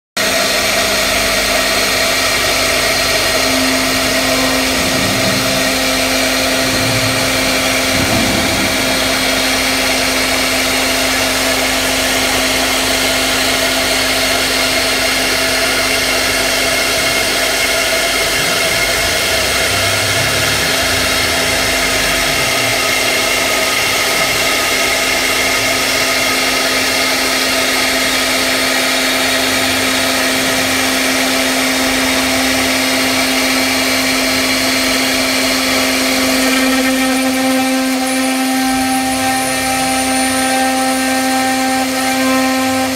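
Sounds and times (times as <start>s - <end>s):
metal cutting noise: 0.2s - 42.9s
router spindle whine: 0.2s - 42.9s.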